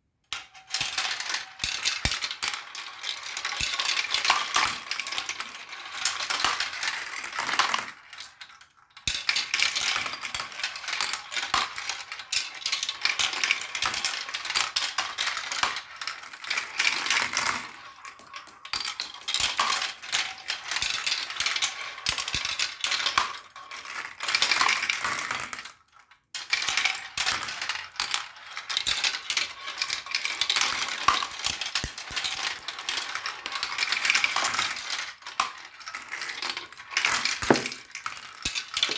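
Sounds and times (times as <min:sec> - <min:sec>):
marbles rolling down a track: 0:00.6 - 0:25.6, 0:26.4 - 0:38.9.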